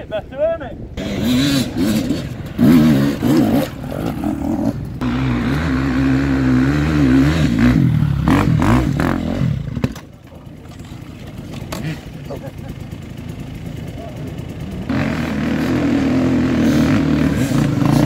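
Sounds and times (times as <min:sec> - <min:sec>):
dirt bike engine revving: 0:01.0 - 0:10.1, 0:11.3 - 0:18.0.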